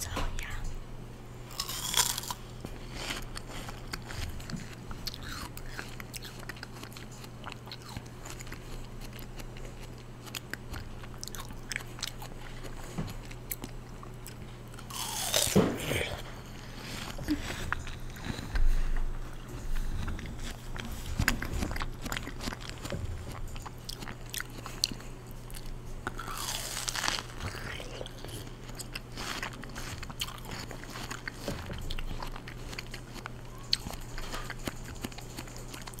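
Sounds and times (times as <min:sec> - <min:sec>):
faint low hum: 0:00.0 - 0:36.0
chewing watermelon crunches: 0:01.5 - 0:36.0.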